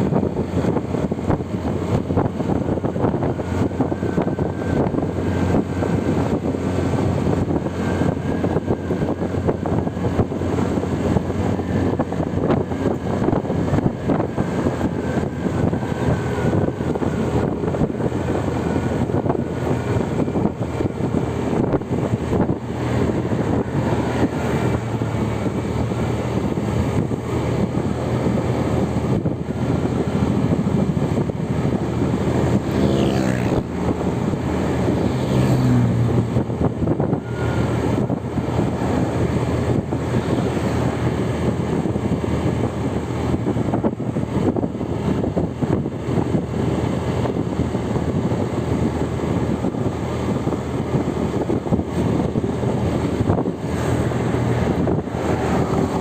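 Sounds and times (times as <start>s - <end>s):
vehicle engine and tyre rumble: 0.0s - 56.0s.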